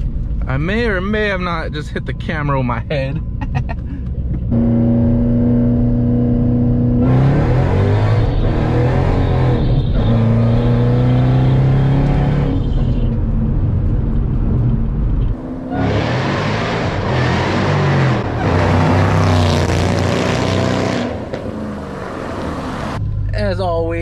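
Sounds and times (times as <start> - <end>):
car engine accelerating hard: 4.0 - 23.4.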